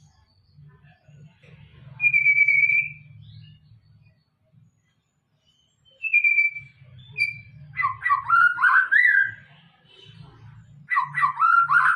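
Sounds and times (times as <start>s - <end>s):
songbird singing whistles and warbles: 1.8s - 11.9s.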